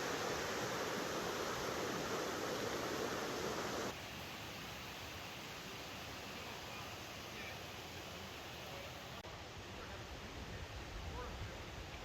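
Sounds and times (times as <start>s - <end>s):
water rushing from waterfall: 0.0s - 12.0s.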